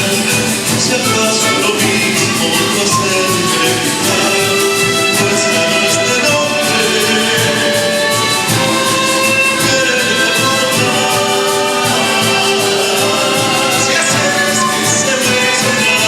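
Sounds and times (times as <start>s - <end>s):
folk instrument orchestra playing: 0.0s - 16.0s.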